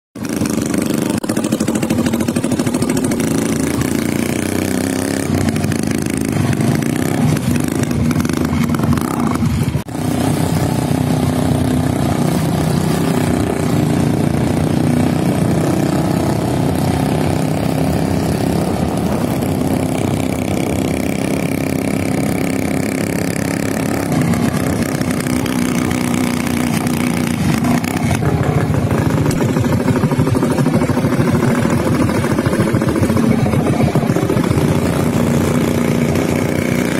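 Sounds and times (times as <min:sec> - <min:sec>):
motorcycle engine running: 0:00.2 - 0:36.9.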